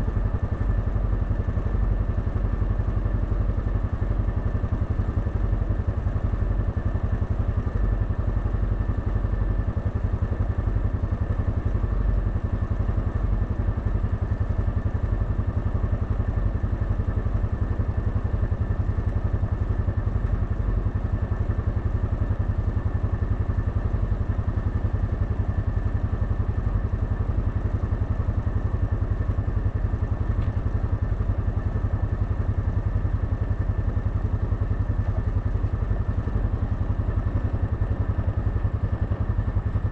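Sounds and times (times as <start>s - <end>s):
quad bike engine idling: 0.0s - 39.9s.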